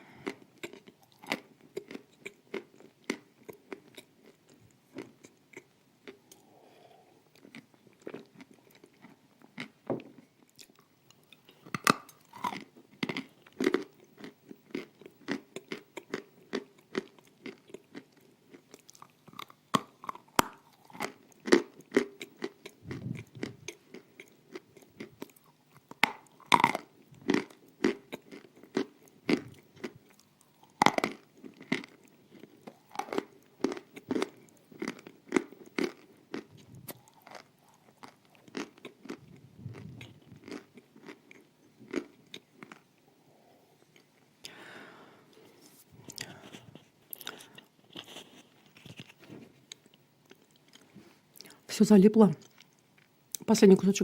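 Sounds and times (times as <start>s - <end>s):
crunching and chewing: 0.0s - 6.6s, 7.2s - 43.2s, 43.8s - 44.3s, 45.3s - 51.6s, 52.4s - 53.4s.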